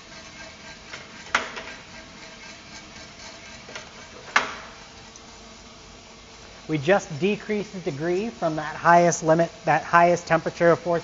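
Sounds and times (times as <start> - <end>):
coffee roaster humming: 0.0 - 11.0.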